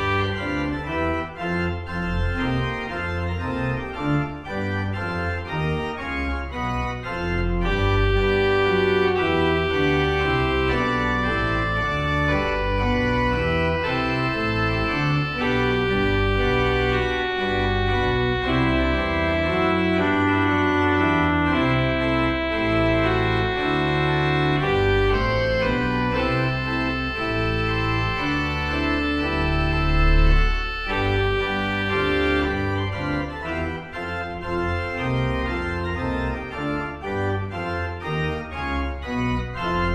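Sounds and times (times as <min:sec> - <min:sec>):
organ playing chords: 0:00.0 - 0:39.9.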